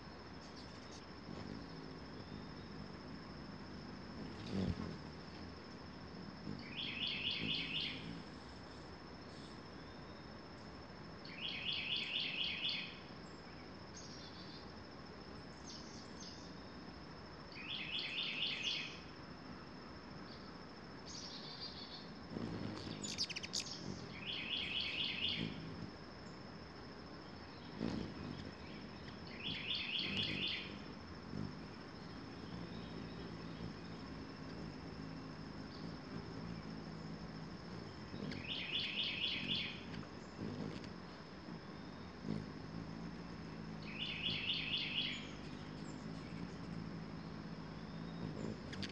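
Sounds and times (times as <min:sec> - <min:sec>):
songbird singing: 0:00.0 - 0:19.2, 0:20.2 - 0:48.9.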